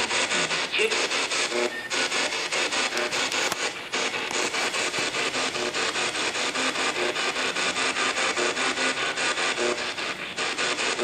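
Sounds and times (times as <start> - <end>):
broadcast tones: 0.0 - 11.0
pulsing radio static: 0.0 - 11.0.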